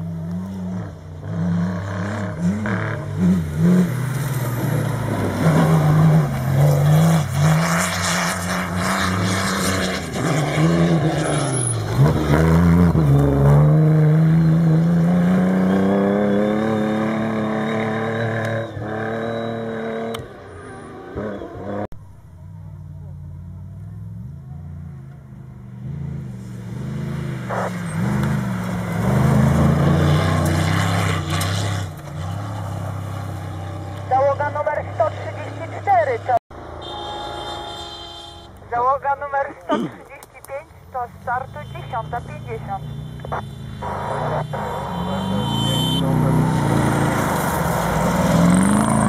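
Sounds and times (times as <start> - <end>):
rally car engine revving: 0.0 - 22.0, 23.0 - 36.4, 42.2 - 49.0
rush of tyre and dirt noise: 0.0 - 49.0.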